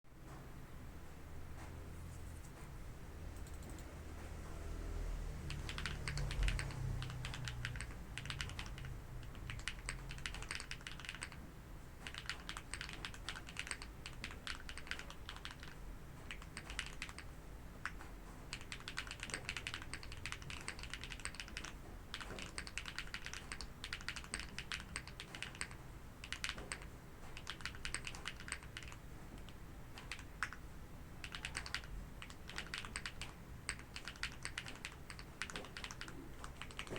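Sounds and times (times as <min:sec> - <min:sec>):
mechanical keyboard typing: 0:03.4 - 0:03.9, 0:05.4 - 0:36.9.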